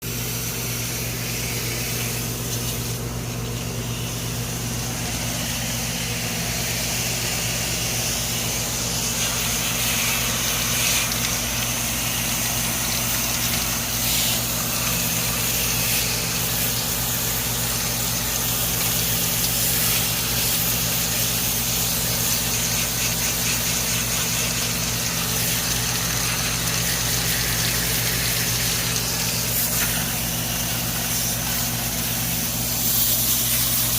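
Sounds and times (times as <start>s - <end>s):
compressor hum: 0.0s - 33.9s
fan and air rushing: 0.0s - 33.9s.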